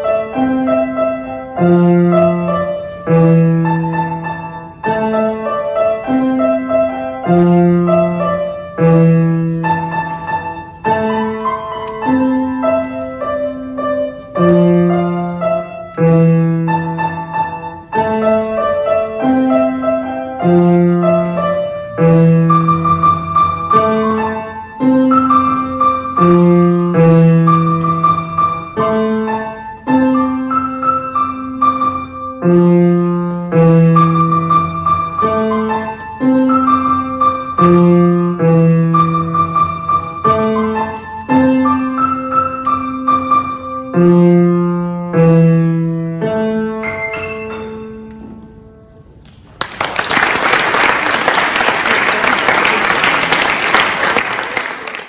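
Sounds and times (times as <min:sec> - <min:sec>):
grand piano piece: 0:00.0 - 0:55.0.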